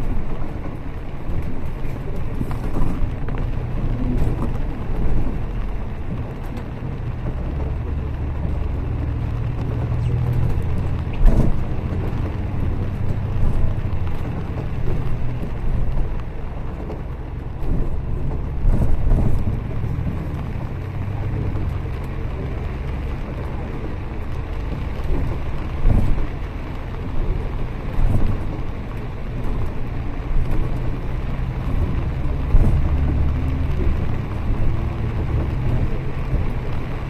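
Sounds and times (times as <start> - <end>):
bus body knocks and rattles: 0.0 - 37.0
bus engine drone and road rumble: 0.0 - 37.0.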